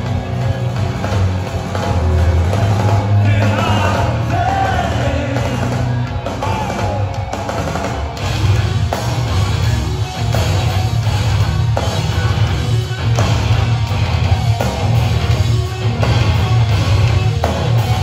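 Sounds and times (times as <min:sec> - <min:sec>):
live metal band playing: 0:00.0 - 0:18.0.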